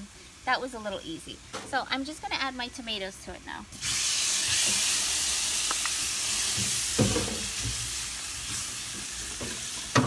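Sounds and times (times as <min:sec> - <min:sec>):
tomatoes sizzling in a pot: 0:00.0 - 0:10.0.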